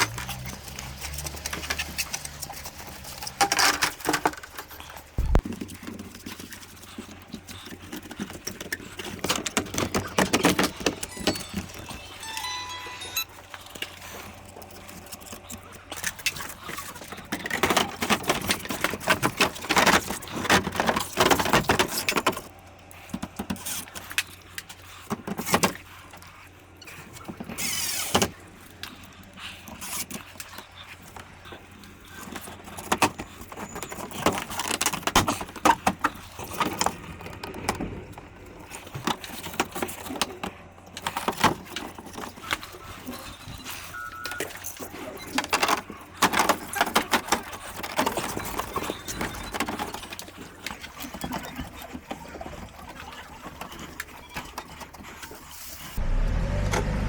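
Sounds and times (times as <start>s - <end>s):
hard parts clicking and rattling: 0.0s - 22.5s, 31.1s - 55.9s.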